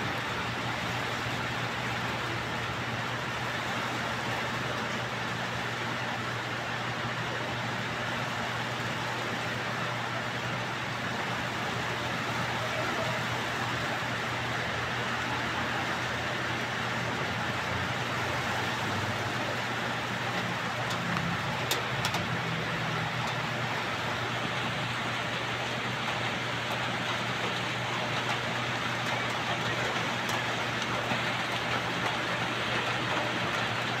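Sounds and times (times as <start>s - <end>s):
rain on roofs and foliage: 0.0s - 34.0s.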